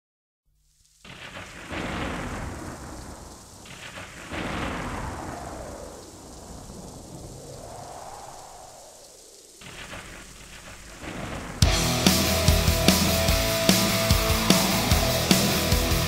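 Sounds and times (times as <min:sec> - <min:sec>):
rain falling: 0:00.6 - 0:16.0
thunder rolling: 0:01.0 - 0:16.0.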